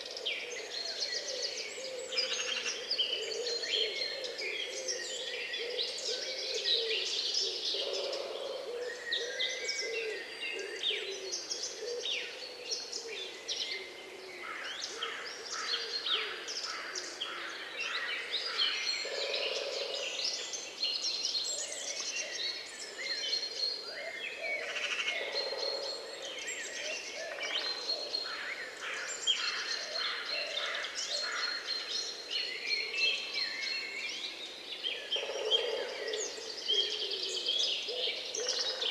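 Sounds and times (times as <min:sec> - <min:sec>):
wild birds singing and calling: 0:00.0 - 0:38.9.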